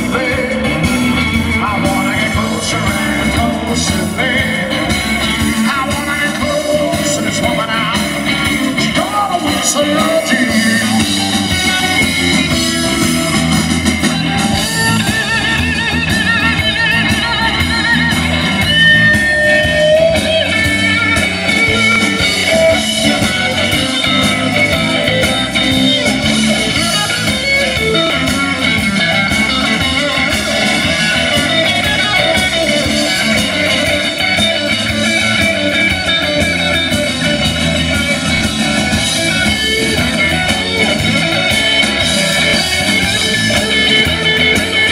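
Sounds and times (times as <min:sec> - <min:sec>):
electric guitar lead with bent notes: 0:00.0 - 0:44.9
rock and roll band playing: 0:00.0 - 0:44.9.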